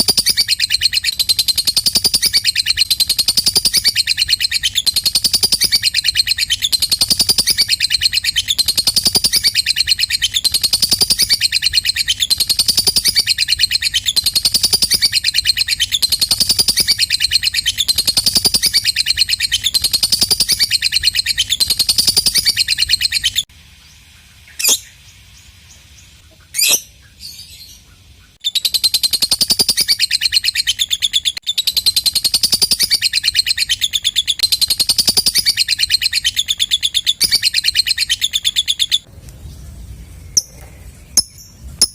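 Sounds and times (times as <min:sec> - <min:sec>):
lovebird chattering trill: 0:00.0 - 0:23.5, 0:26.2 - 0:39.1
sharp bird chirps: 0:00.0 - 0:23.5, 0:24.5 - 0:39.1, 0:39.8 - 0:41.9.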